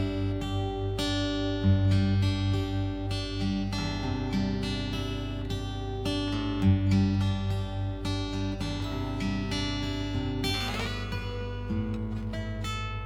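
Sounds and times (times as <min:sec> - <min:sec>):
fingerstyle acoustic guitar: 0:00.0 - 0:13.0.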